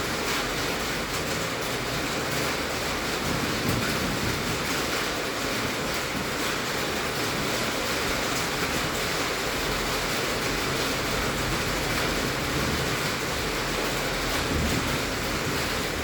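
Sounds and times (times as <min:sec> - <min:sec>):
heavy rain on a tin roof: 0:00.0 - 0:16.0.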